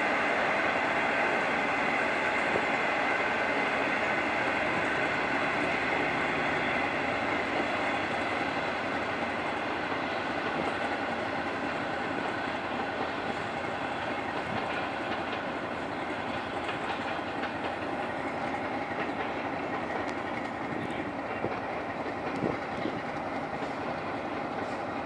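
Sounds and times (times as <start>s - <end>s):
train rail rumble: 0.0s - 25.0s
wheels clicking over rail joints: 3.4s - 25.0s.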